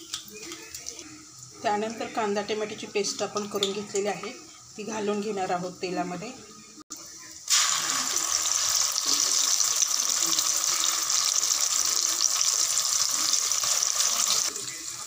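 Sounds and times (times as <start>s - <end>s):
hot oil sizzling in a pot: 0.0s - 15.0s.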